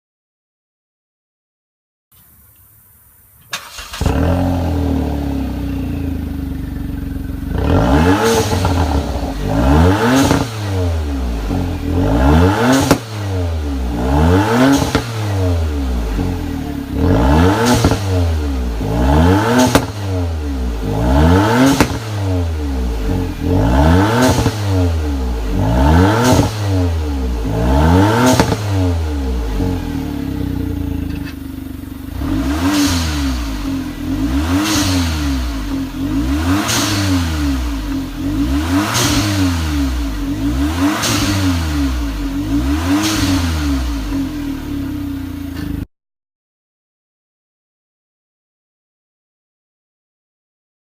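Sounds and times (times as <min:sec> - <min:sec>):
car engine idling and revving: 0:03.0 - 0:45.9.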